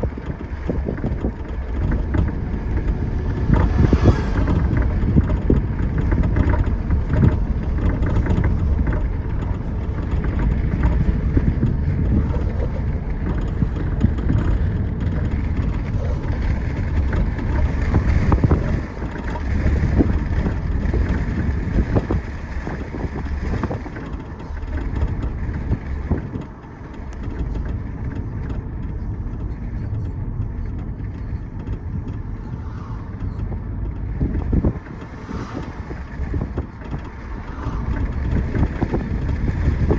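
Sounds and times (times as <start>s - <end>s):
car engine rumble: 0.0s - 39.9s
suspension clicks: 0.0s - 39.9s.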